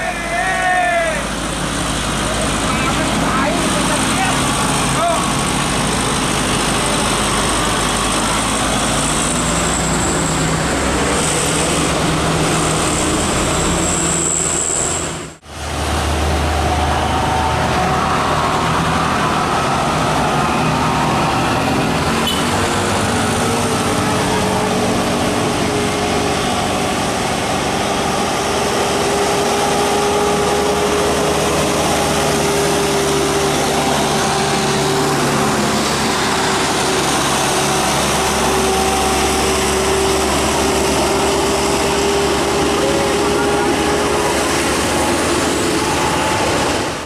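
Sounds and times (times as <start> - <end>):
bus engine drone: 0.0 - 47.0
road noise: 0.0 - 47.0.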